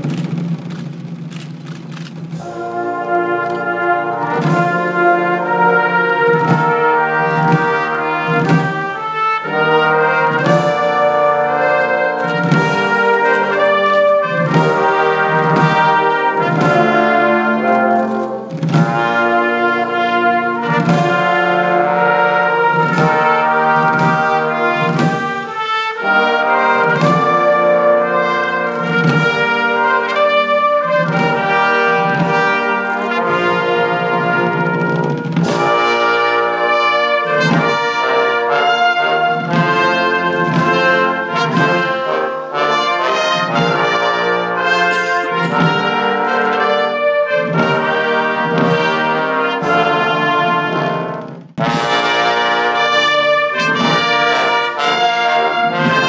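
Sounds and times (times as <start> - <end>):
brass band playing: 0.0 - 56.0
field drums beating: 0.0 - 56.0.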